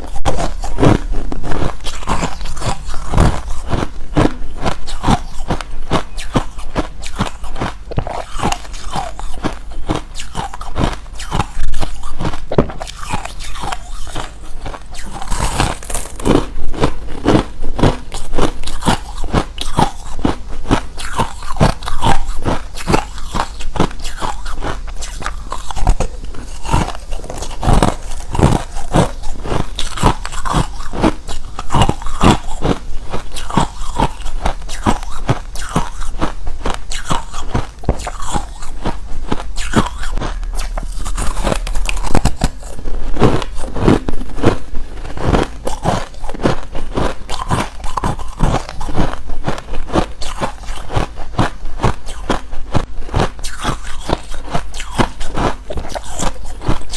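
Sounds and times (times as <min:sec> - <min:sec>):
crunching ice being chewed: 0:00.0 - 0:56.9.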